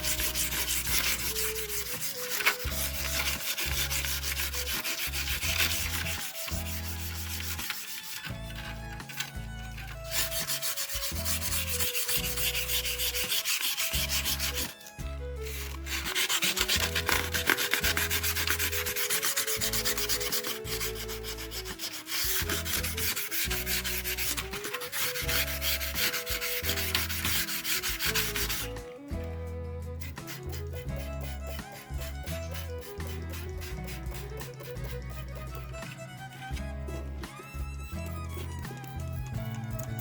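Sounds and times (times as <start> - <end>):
sanding wood: 0.0 - 29.2, 30.0 - 37.2, 37.8 - 40.0.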